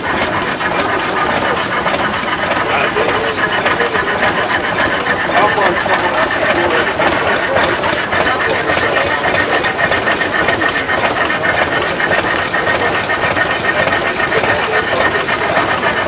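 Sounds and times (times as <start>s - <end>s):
steam engine clatter: 0.0s - 16.0s.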